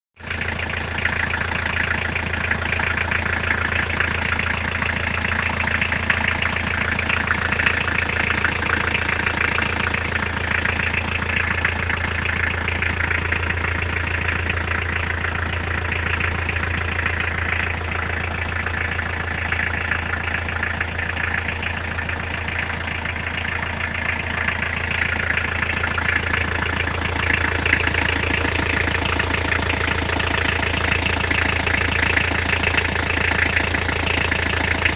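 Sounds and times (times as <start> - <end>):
car engine idling with knocking: 0.2 - 34.9.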